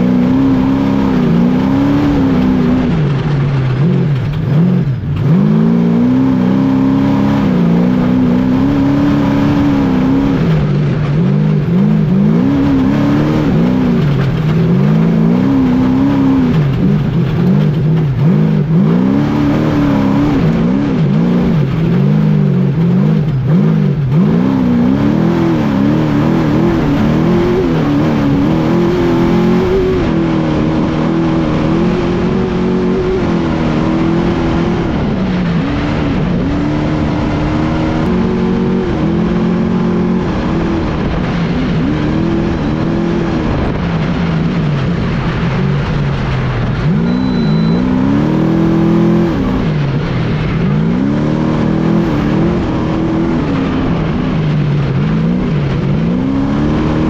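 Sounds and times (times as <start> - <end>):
truck engine revving hard: 0.0 - 57.0
wind and road noise: 0.0 - 57.0.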